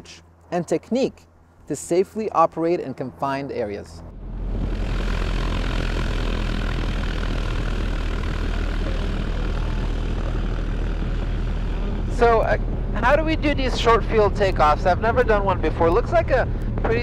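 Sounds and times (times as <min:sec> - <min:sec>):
propeller plane engine running: 0:00.0 - 0:17.0.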